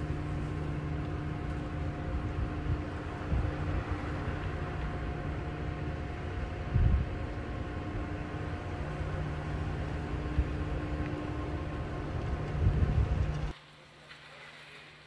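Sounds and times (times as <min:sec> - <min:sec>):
faint steady hum: 0:00.0 - 0:15.0
low rumble and hiss: 0:00.0 - 0:15.0.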